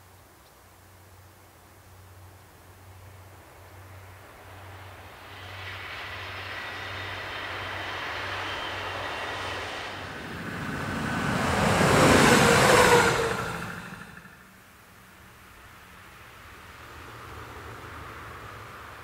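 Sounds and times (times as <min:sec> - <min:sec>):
diesel railcar passing: 0:02.6 - 0:19.0.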